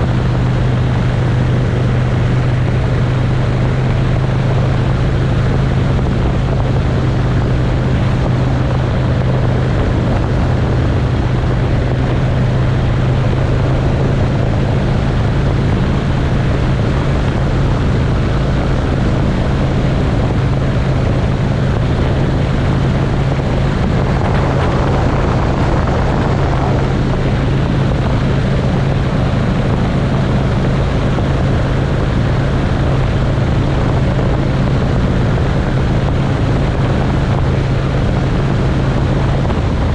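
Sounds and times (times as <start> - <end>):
motorcycle engine cruising: 0.0 - 39.9
road noise: 0.0 - 39.9
rushing wind: 0.0 - 39.9.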